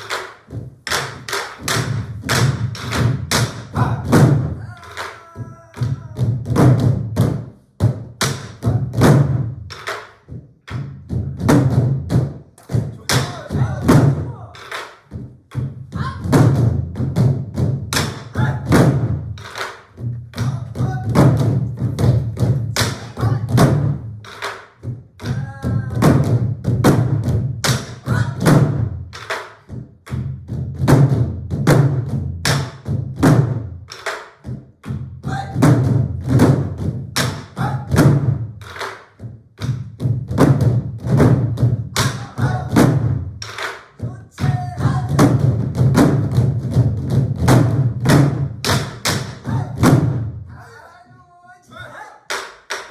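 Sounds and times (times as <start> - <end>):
barrel drums ensemble: 0.0 - 52.9.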